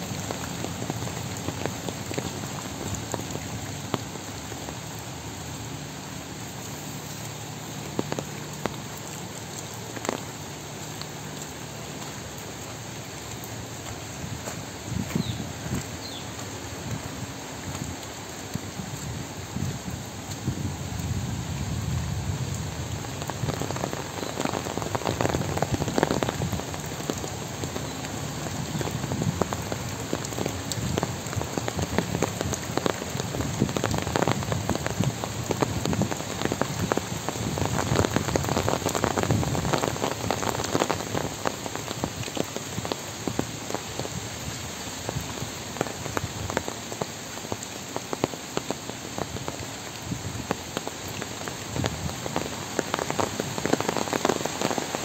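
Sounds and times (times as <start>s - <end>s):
rain falling on pavement: 0.0s - 55.0s.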